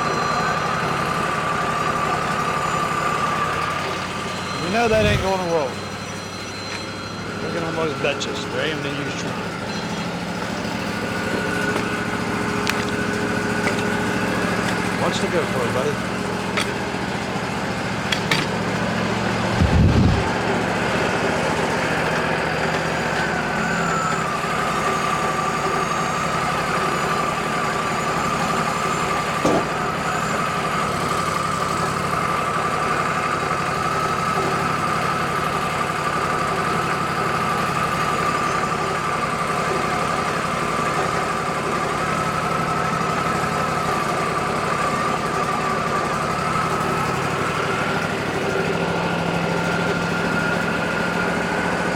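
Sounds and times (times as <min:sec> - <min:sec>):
band sawmill whining: 0:00.0 - 0:51.9.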